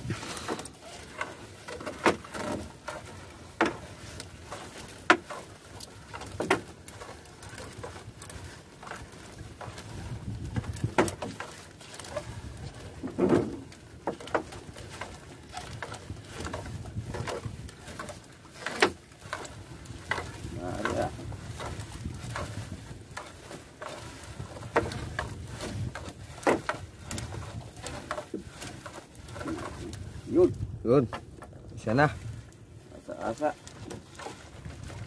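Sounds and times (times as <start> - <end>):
knocks and rustling of net: 0.0 - 32.4, 33.0 - 35.0.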